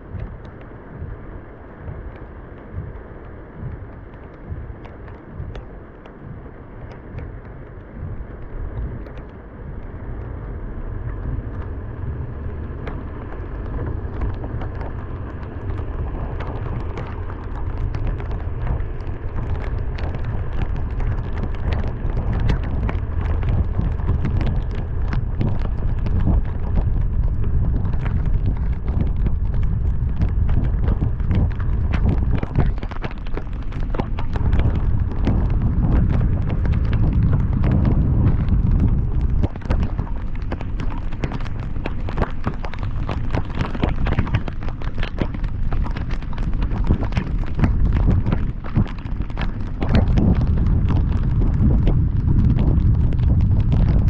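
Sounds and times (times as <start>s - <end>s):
raindrops hitting: 0.0s - 54.0s
road and wind rumble: 0.0s - 54.0s.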